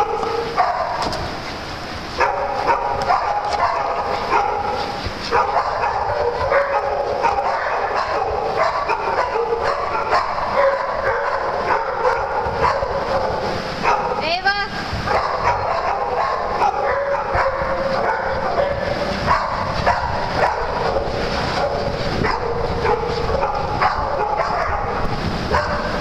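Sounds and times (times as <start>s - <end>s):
small dogs barking: 0.0s - 1.2s, 2.1s - 14.2s, 15.0s - 26.0s.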